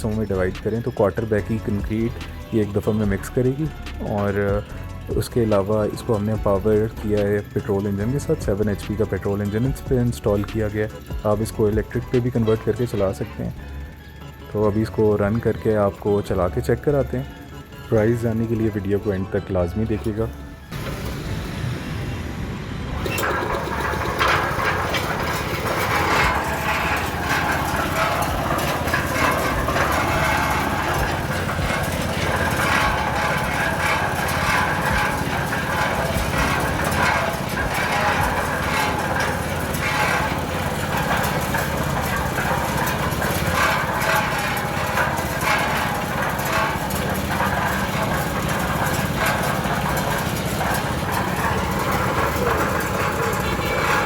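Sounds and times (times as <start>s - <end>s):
concrete mixer engine running: 0.0s - 54.0s.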